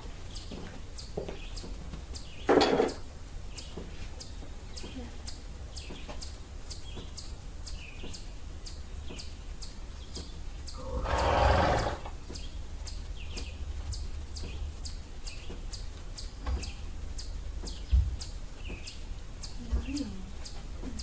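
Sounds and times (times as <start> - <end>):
small bird chirping: 0.2 - 21.0.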